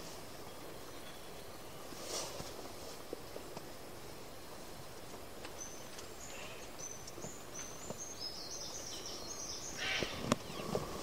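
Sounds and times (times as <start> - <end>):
forest ambience: 0.0 - 11.0.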